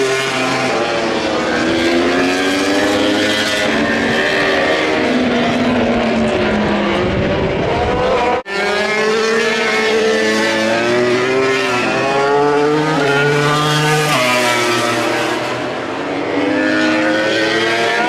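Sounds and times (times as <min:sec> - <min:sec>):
racing motorcycle engines revving: 0:00.0 - 0:18.0.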